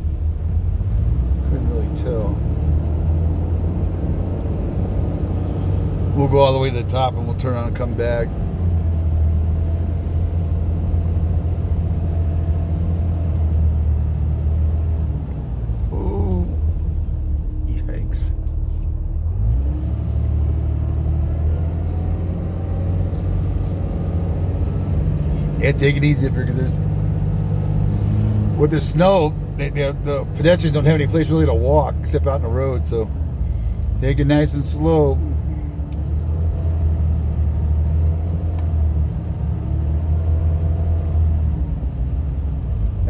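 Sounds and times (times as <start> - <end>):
truck engine and road noise: 0.0 - 43.0.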